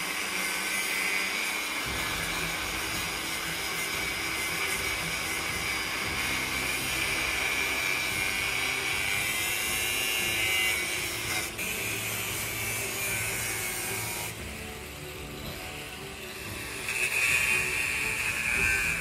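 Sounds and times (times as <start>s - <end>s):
angle grinder cutting steel: 0.0s - 19.0s.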